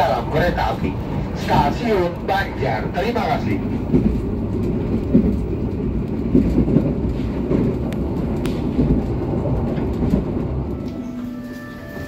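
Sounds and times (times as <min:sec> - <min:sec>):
train running gear rumbling: 0:00.0 - 0:12.0.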